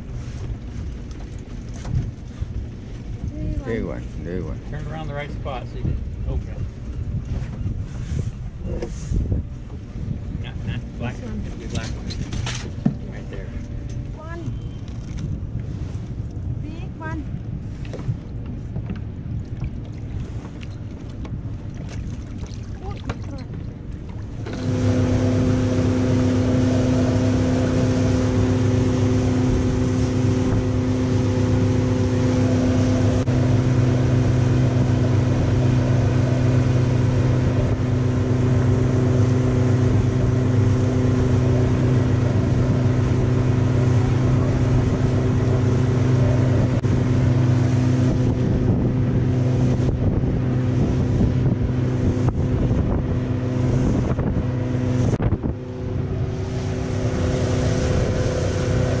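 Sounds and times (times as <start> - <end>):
motorboat engine running: 0.0 - 59.0
rush of water and wind: 0.0 - 59.0.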